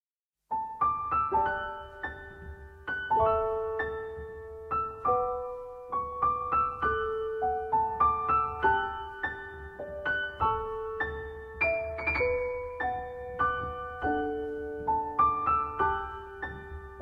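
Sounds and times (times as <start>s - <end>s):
gentle piano melody: 0.5s - 17.0s.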